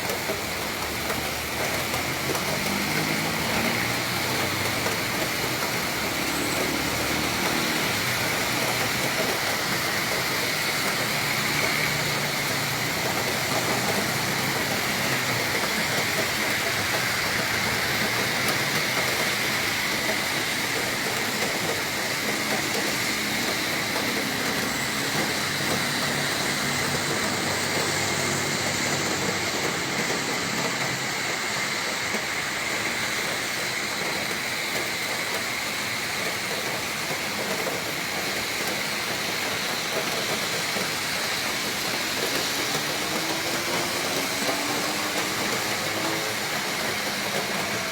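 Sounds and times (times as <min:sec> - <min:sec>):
heavy rain and wind: 0:00.0 - 0:47.9.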